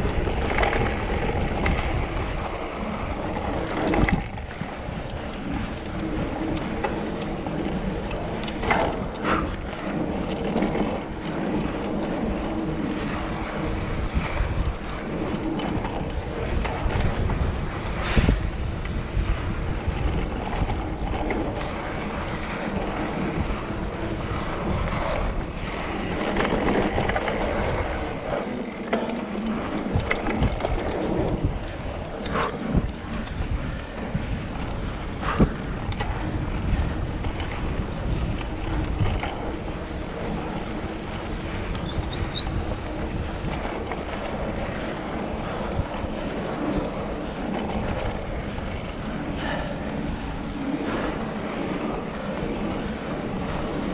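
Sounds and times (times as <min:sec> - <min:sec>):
bike knocks and rattles: 0:00.0 - 0:53.9
bike tyres crunching on gravel: 0:00.0 - 0:53.9
wind buffeting microphone: 0:00.0 - 0:53.9.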